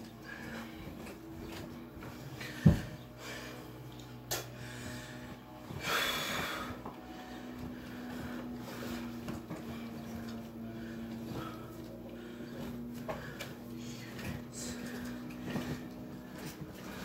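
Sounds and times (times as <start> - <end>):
faint steady hum: 0.0 - 17.0
mattress creaks and thuds: 0.3 - 3.7, 4.5 - 17.0.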